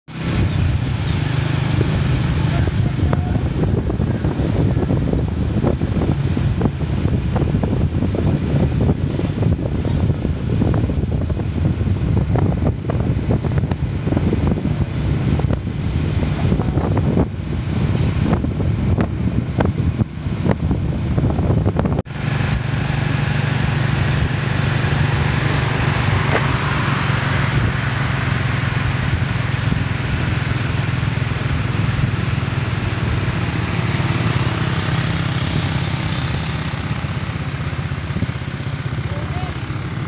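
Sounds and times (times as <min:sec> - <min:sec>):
motorcycle engine running: 0:00.0 - 0:40.0
wind buffeting microphone: 0:00.1 - 0:40.0.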